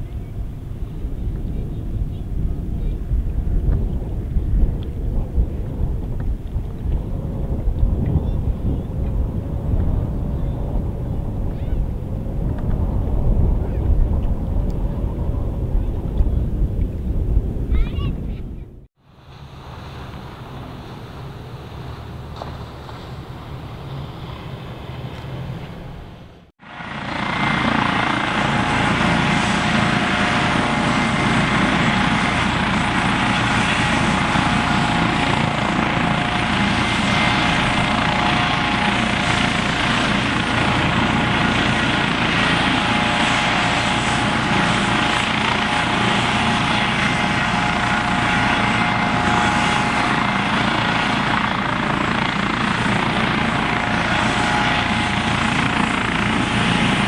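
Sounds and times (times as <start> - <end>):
helicopter rotor and turbine whine: 0.0 - 57.0.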